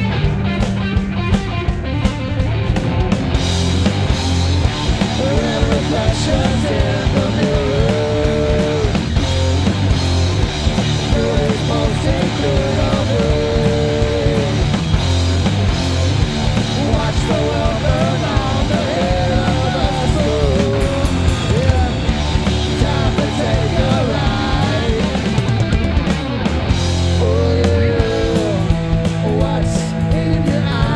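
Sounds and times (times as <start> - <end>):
rock band playing live: 0.0 - 30.9.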